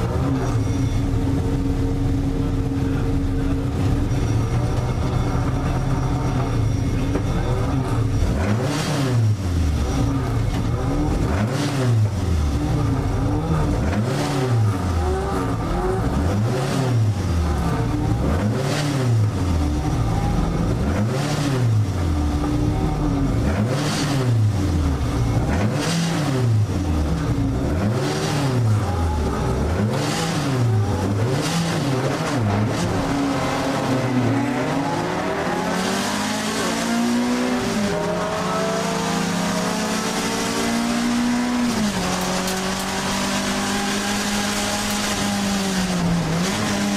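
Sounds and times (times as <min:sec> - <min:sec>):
car engine revving: 0:00.0 - 0:46.9
car accelerating away: 0:02.6 - 0:46.9.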